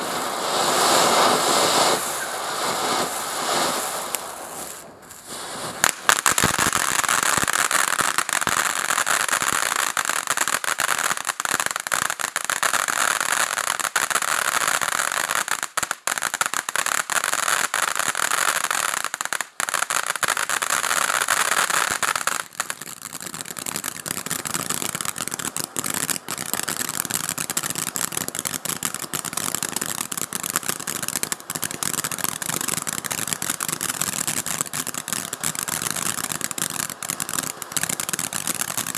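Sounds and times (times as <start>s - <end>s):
firework fountain hissing: 0.0s - 38.9s.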